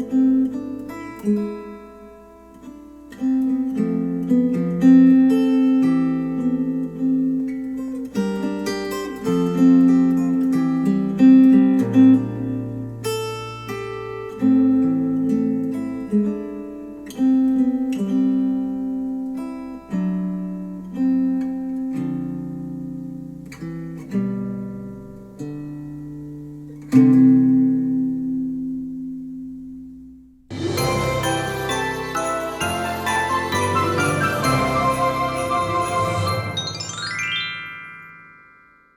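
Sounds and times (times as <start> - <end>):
acoustic guitar chords ringing: 0.0 - 38.9.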